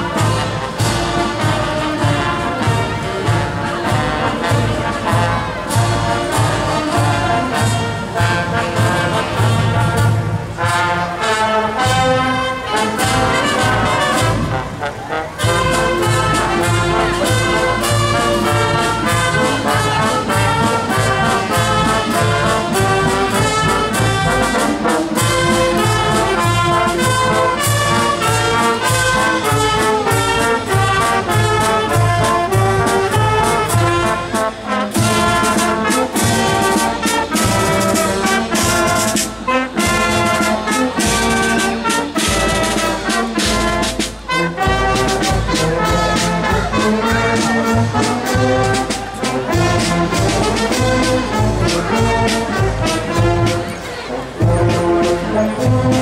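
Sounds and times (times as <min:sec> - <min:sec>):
brass playing: 0:00.0 - 0:56.0
snare drum: 0:00.0 - 0:56.0.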